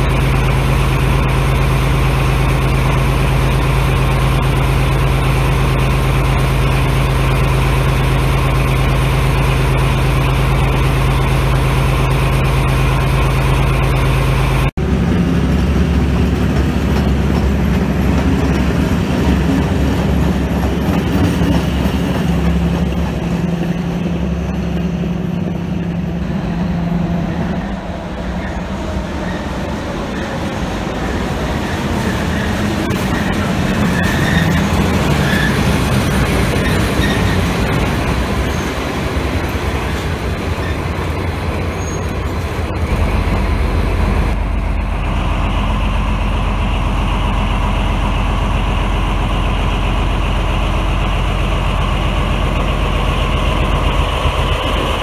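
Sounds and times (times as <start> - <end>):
diesel locomotive engine: 0.0 - 55.0
train coaches rolling past: 0.0 - 55.0.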